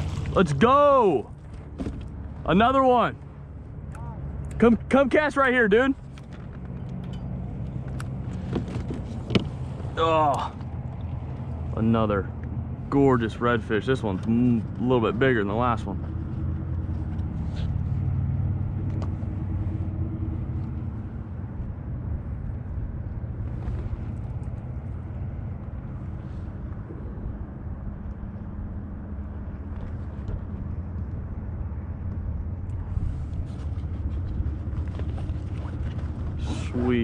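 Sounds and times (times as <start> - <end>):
low engine rumble: 0.0 - 37.0.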